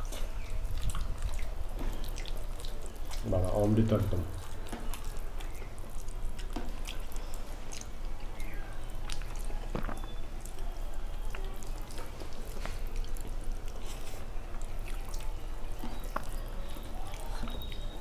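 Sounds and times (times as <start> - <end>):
eating by hand smacks: 0.0 - 18.0
hands squishing soft rice: 0.0 - 18.0.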